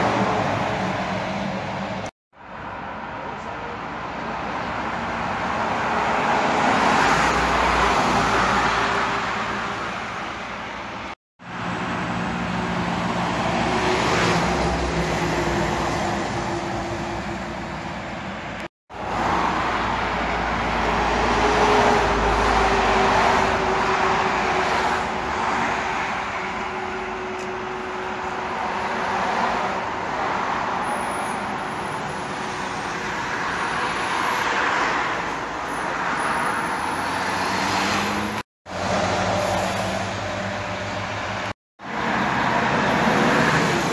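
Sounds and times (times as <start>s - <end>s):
heavy vehicles passing: 0.0s - 43.9s.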